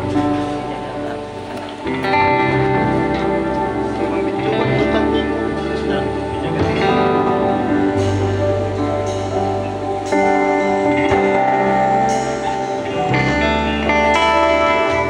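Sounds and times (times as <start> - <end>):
live worship band playing: 0.0 - 15.0.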